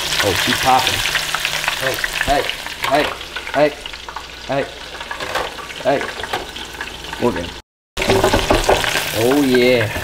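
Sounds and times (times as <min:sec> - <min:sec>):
oil bubbling and crackling: 0:00.0 - 0:10.0.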